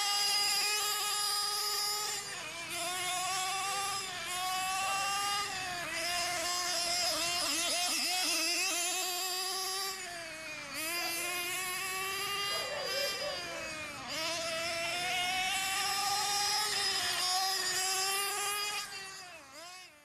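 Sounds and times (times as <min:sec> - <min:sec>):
model motorcycle motor whining: 0:00.0 - 0:20.0.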